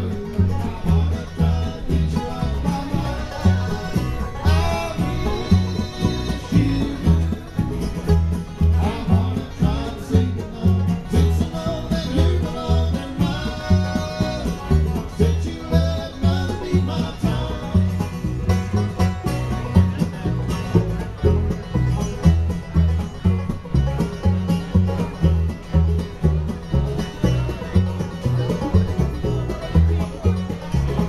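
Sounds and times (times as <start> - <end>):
banjo: 0.0 - 31.0
bluegrass band playing: 0.0 - 31.0.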